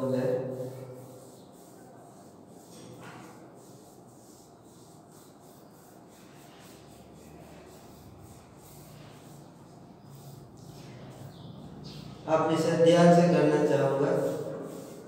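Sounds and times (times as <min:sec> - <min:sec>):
paintbrush strokes on wood: 0:00.0 - 0:15.0.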